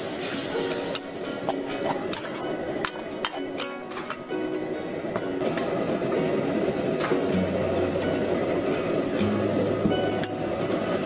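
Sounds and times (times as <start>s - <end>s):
food sizzling in a wok: 0.0s - 3.6s, 5.4s - 11.0s
background music: 0.0s - 11.0s.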